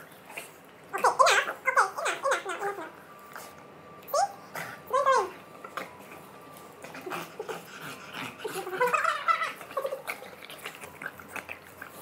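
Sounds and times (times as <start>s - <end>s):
dogs growling and grunting: 0.0s - 12.0s.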